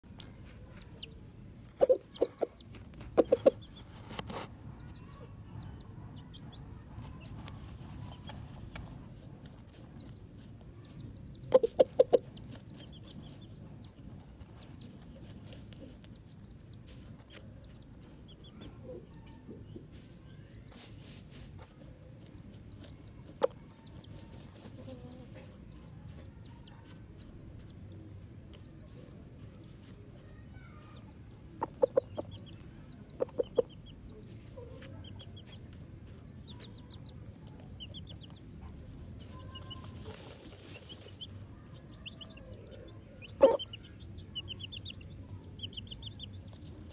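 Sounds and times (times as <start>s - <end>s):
chick peeping: 0.0s - 46.9s
chickens clucking: 0.0s - 46.9s.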